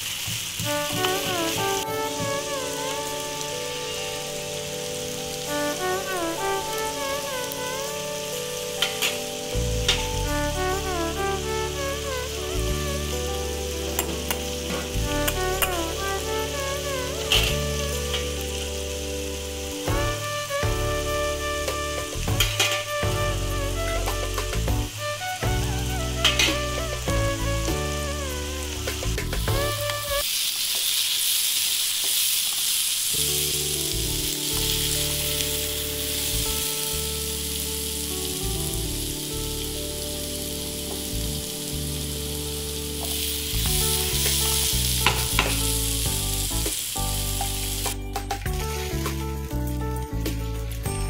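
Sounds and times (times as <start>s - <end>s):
potatoes sizzling in a pan: 0.0s - 51.0s
background music: 0.6s - 30.2s, 33.2s - 51.0s.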